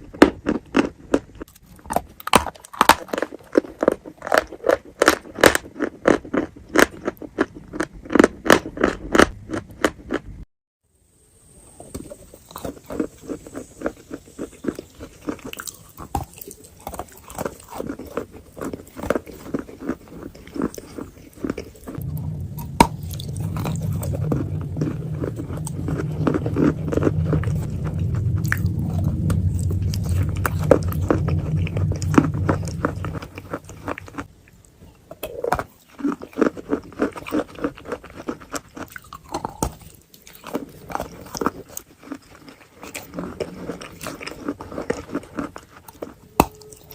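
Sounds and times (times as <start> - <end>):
crunchy chewing and biting: 0.0 - 10.5, 11.6 - 46.9
steady low hum: 0.0 - 46.9.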